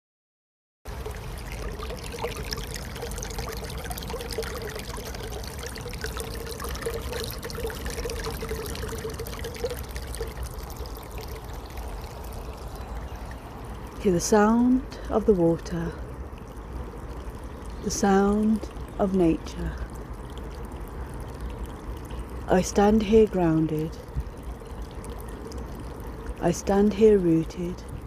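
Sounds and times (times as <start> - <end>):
water flowing and trickling: 0.9 - 28.0.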